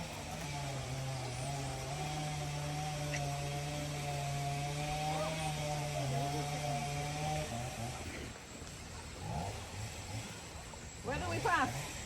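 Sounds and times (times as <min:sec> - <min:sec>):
chainsaw engine running: 0:00.0 - 0:08.5, 0:09.1 - 0:12.0.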